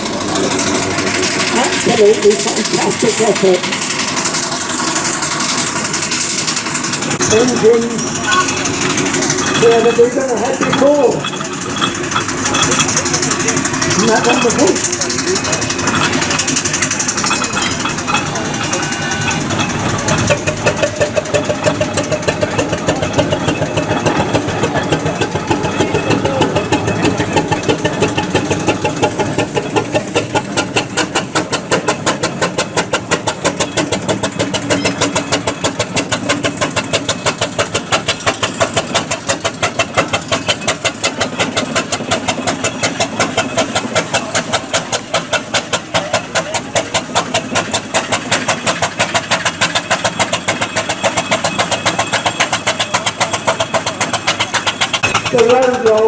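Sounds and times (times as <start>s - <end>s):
vintage engine running: 0.0s - 56.0s.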